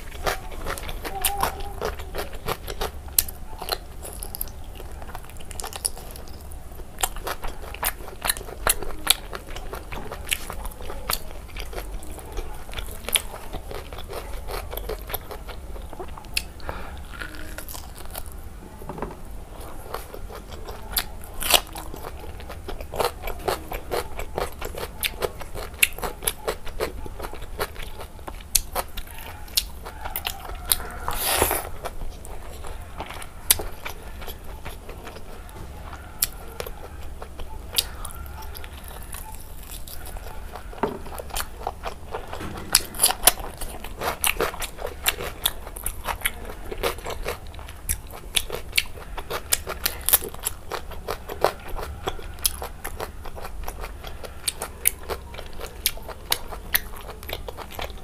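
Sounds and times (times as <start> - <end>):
wet chewing and lip-smacking: 0.0 - 18.4, 19.5 - 58.0.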